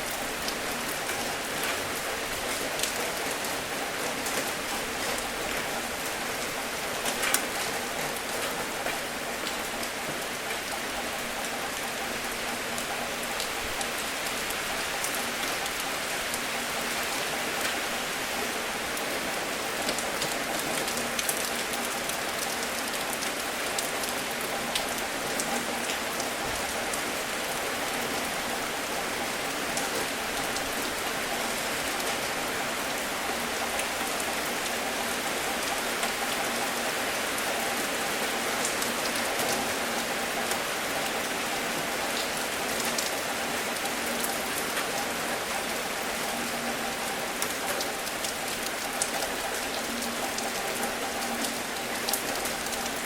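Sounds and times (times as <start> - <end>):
gentle rain: 0.0 - 53.0.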